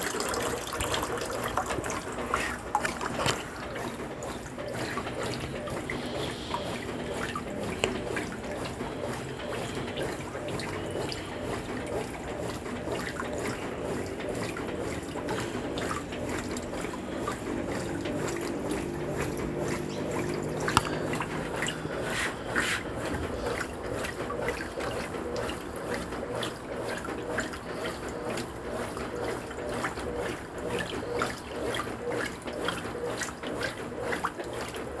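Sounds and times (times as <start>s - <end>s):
water drips and clicks: 0.0s - 35.0s
water trickling and splashing: 0.0s - 35.0s.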